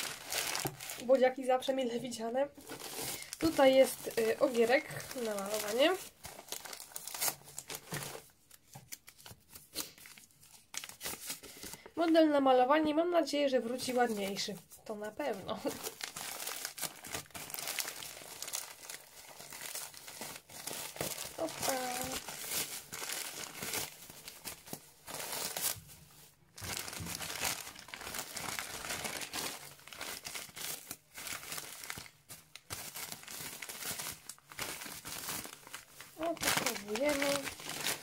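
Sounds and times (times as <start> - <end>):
bubble wrap crinkling: 0.0 - 12.6, 13.5 - 38.0.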